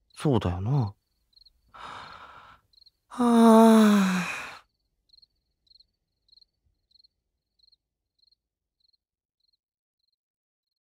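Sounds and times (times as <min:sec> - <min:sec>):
crickets chirping: 0:00.0 - 0:09.6.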